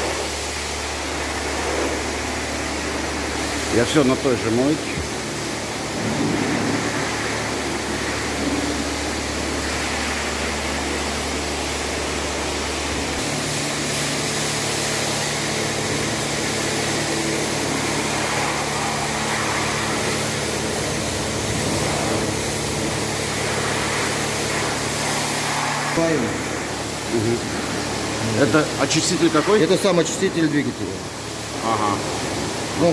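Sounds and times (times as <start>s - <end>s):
machine humming: 0.0s - 32.9s
spraying hiss of car wash: 0.0s - 32.9s.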